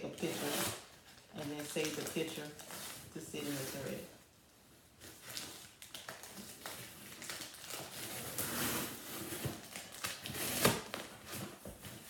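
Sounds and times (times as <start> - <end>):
paper and packing rustling: 0.1 - 4.1, 5.0 - 12.0.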